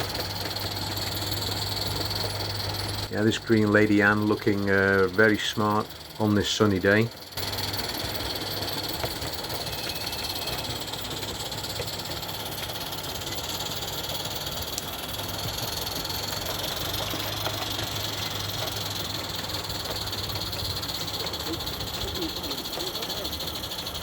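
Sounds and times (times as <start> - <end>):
model steam locomotive running: 0.0 - 24.0.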